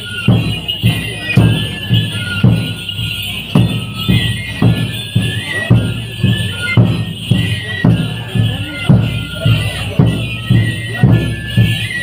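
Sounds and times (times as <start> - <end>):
flute melody: 0.0 - 12.0
steady drum beats: 0.0 - 12.0.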